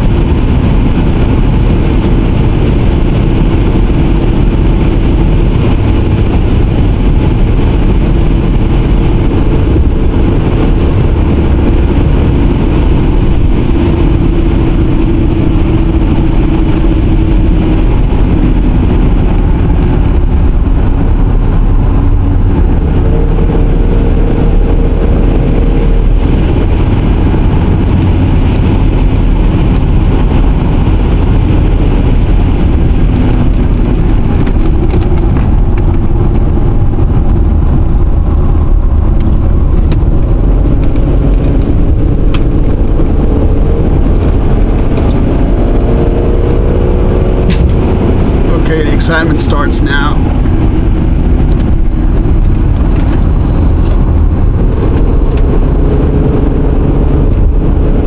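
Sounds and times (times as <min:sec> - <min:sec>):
car interior road noise: 0:00.0 - 0:58.0.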